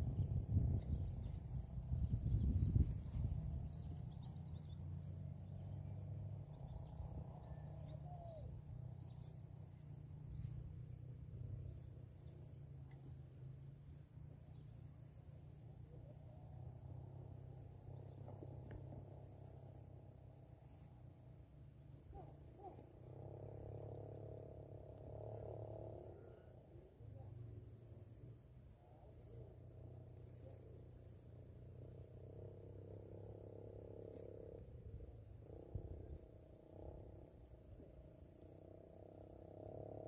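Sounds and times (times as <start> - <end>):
faint chirps: 0.0 - 37.9
low hum: 0.0 - 40.0.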